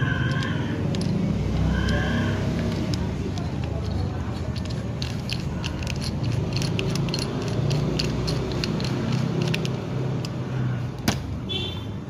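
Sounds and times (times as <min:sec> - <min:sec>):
metallic clicks and scrapes: 0:00.0 - 0:11.1.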